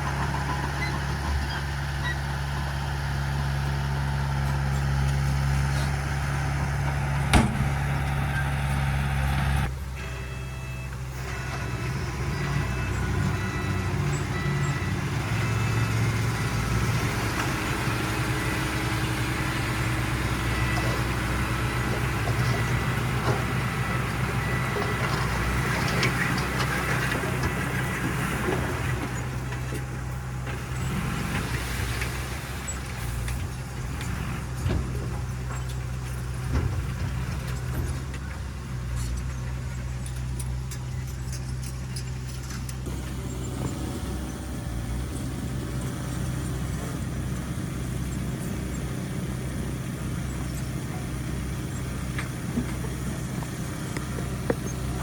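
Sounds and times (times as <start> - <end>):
heavy machine diesel engines: 0.0 - 55.0.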